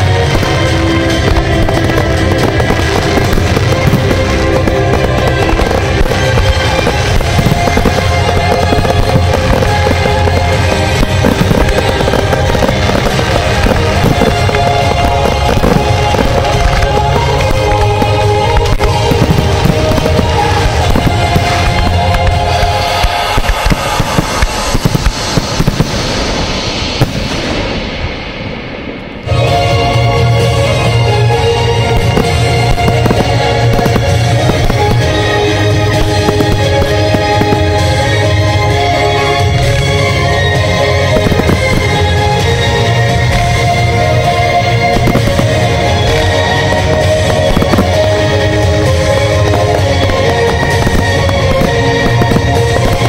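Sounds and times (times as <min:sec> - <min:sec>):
sustained musical notes: 0:00.0 - 0:27.0, 0:29.2 - 0:53.0
fireworks bursting and crackling: 0:00.0 - 0:53.0.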